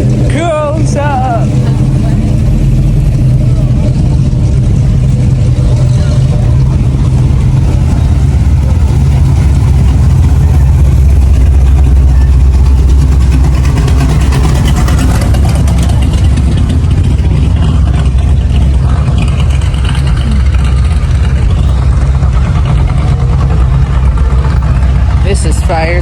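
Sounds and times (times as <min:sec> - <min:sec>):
car engine rumbling: 0:00.0 - 0:26.0.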